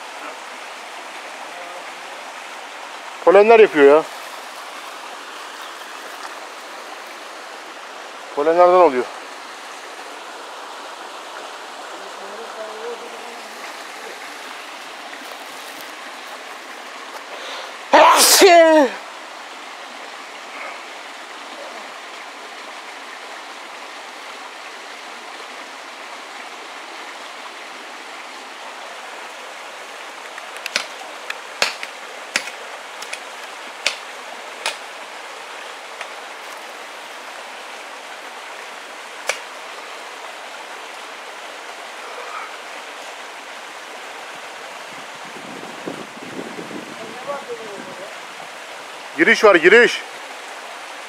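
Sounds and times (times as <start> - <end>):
flowing water rushing: 0.0 - 51.0.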